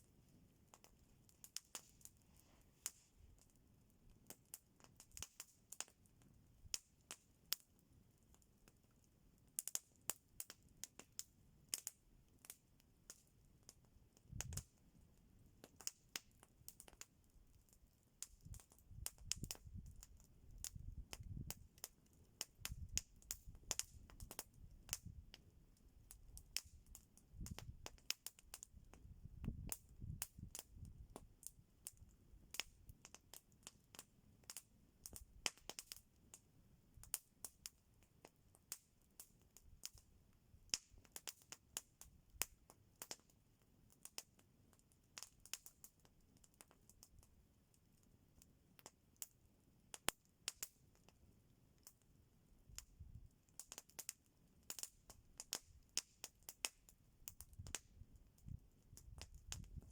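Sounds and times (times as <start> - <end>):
campfire crackling and popping: 0.0 - 52.0, 52.7 - 59.9.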